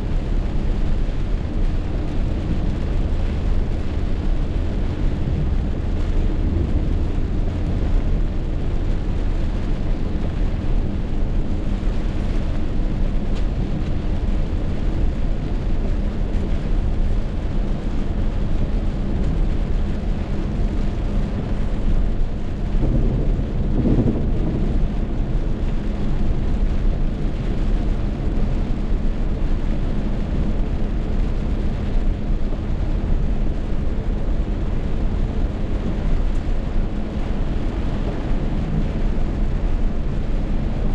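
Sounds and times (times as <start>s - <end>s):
wind and rain rumble: 0.0s - 40.9s.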